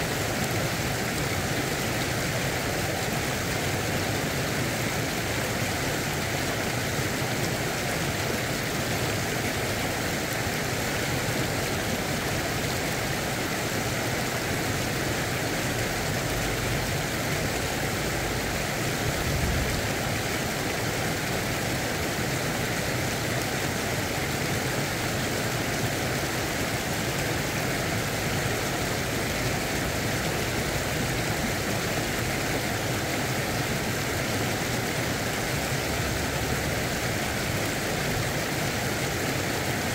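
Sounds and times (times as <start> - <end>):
water rushing over a weir: 0.0 - 39.9.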